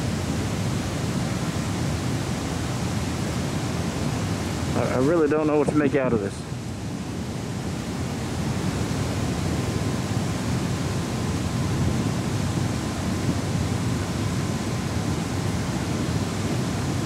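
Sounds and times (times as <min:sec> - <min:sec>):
water rushing: 0:00.0 - 0:17.0
wind: 0:00.0 - 0:17.0.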